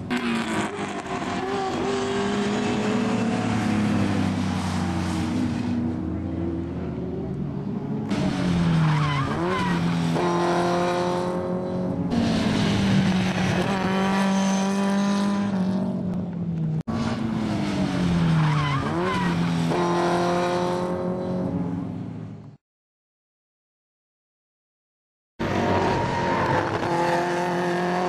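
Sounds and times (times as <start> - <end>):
racing car engines revving: 0.0 - 22.3, 25.4 - 28.0.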